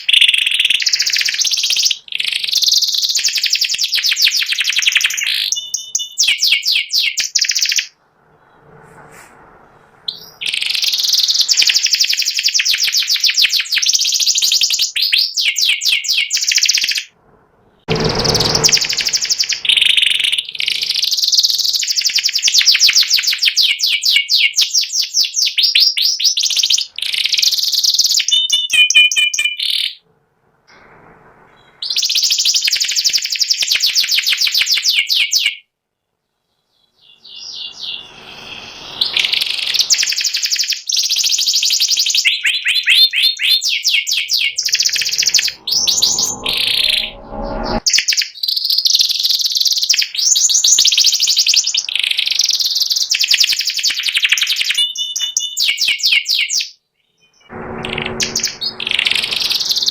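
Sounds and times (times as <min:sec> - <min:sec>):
canary singing trills: 0:00.0 - 0:08.5, 0:10.1 - 0:17.1, 0:18.0 - 0:30.0, 0:36.7 - 0:59.9.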